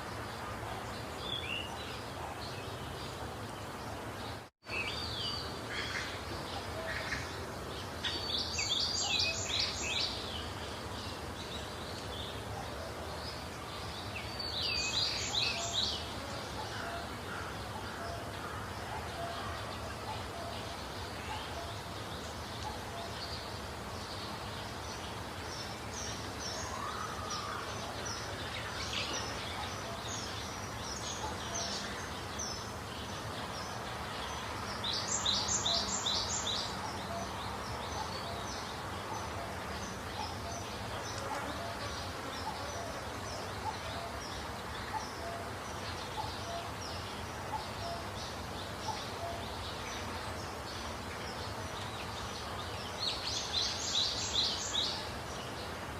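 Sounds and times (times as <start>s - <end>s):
outdoor background hiss: 0.0s - 55.9s.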